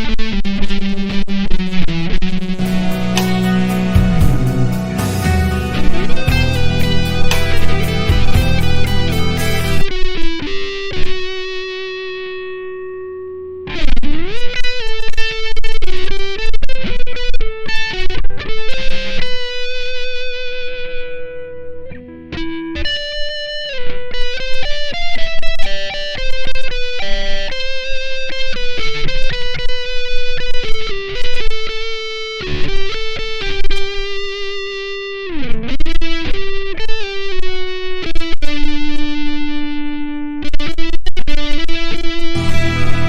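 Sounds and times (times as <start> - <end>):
electric guitar melody: 0.0 - 43.0.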